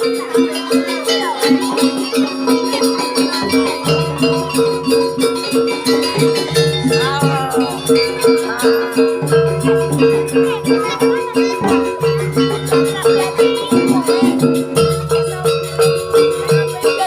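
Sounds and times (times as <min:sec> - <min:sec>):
high ticking cymbals: 0:00.0 - 0:17.0
gong-chime notes: 0:01.1 - 0:16.6.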